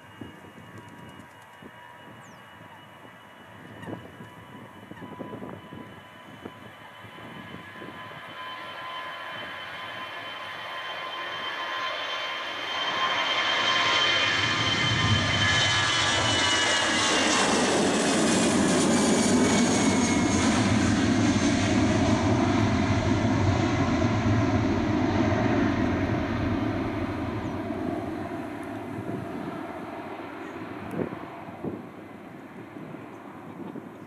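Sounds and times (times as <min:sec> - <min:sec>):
jet airliner passing by: 0:00.0 - 0:34.0.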